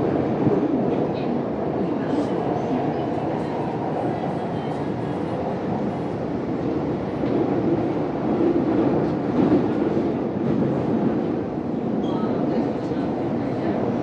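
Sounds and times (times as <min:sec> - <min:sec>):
metro train rumbling: 0:00.0 - 0:14.0.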